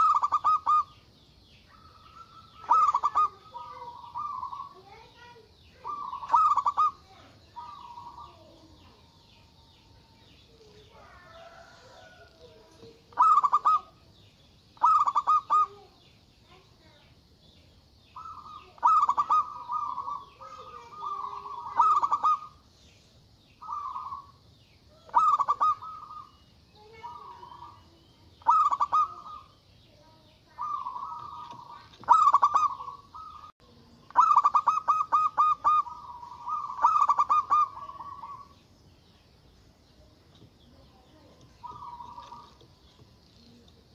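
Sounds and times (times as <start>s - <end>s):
dove cooing: 0.0s - 1.0s, 1.6s - 14.1s, 14.8s - 16.0s, 18.2s - 22.6s, 23.6s - 29.5s, 30.4s - 38.6s, 41.0s - 43.9s
high bird chirps: 0.0s - 43.9s.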